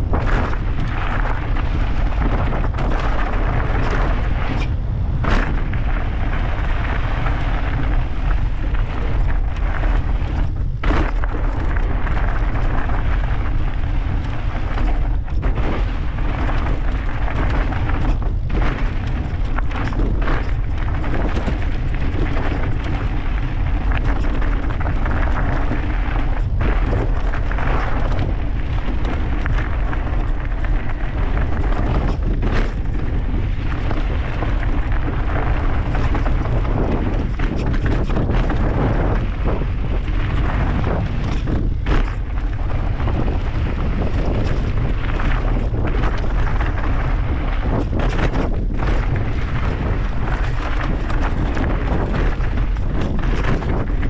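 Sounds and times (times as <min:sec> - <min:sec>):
bike knocking and rattling: 0:00.0 - 0:54.0
bike tyre noise: 0:00.0 - 0:54.0
wind rumble on microphone: 0:00.0 - 0:54.0.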